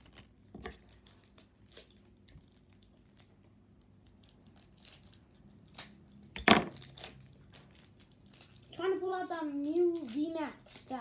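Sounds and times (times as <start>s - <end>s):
foil pack crinkling: 0.0s - 11.0s.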